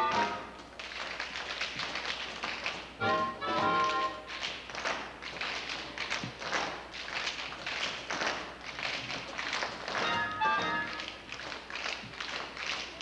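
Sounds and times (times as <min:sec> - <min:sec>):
tap shoes on wooden stage: 0:00.0 - 0:13.0.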